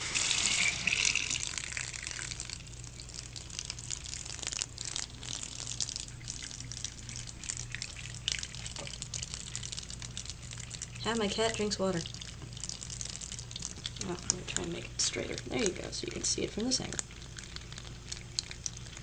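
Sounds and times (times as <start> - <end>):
water running from faucet: 0.0 - 19.0
water splashes: 0.0 - 19.0.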